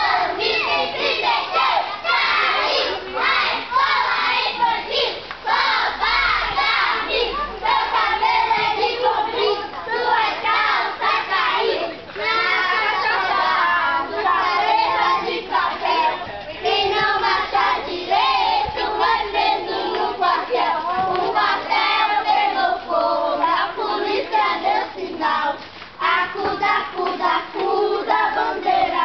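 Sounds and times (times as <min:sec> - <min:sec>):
children singing gospel song: 0:00.0 - 0:29.0.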